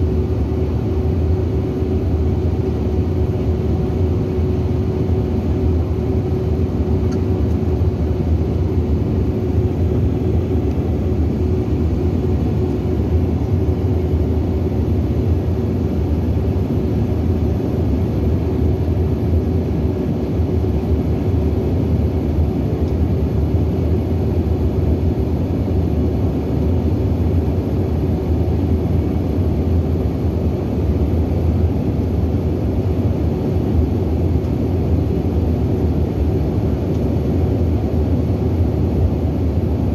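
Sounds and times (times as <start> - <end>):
constant cabin hum: 0.0 - 39.9
engine and airflow rumble: 0.0 - 39.9.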